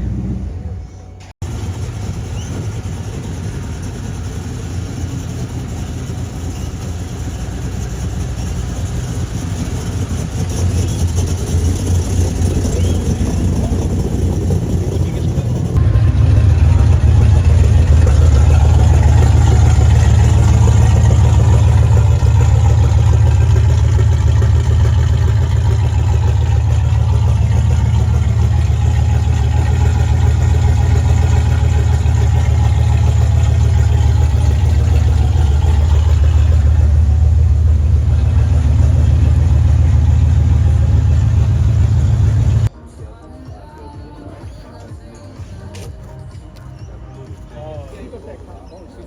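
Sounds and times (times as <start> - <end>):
car engine idling: 0.0 - 42.7.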